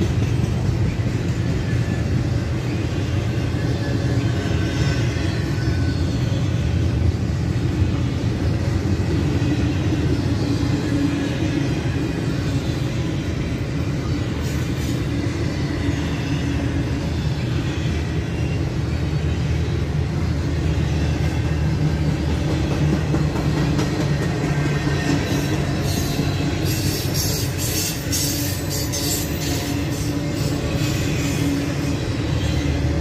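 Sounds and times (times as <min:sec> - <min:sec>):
steel train wheels on rails: 0:00.0 - 0:33.0.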